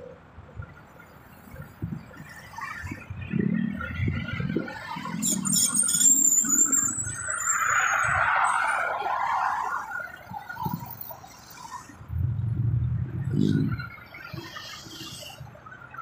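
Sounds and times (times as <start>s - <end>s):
passing traffic tyre and engine noise: 0.0s - 16.0s.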